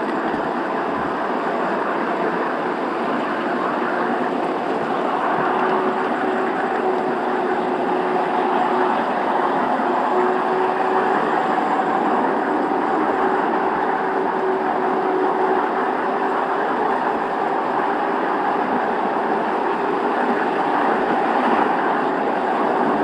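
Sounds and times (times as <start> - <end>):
faint steady whine: 0.0 - 23.0
train wheels rolling on rails: 0.0 - 23.0.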